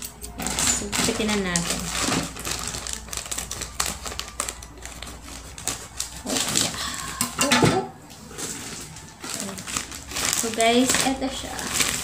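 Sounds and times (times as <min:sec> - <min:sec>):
plastic rustling and crinkling: 0:00.3 - 0:12.0.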